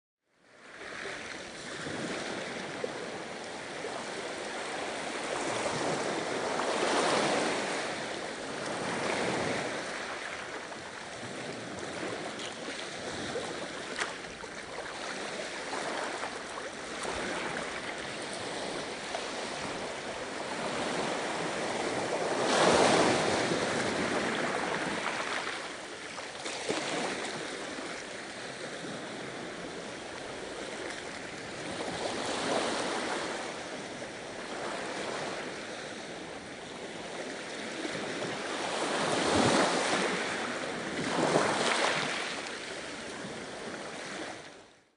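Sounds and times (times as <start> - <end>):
ocean waves washing onto shore: 0.5 - 44.7.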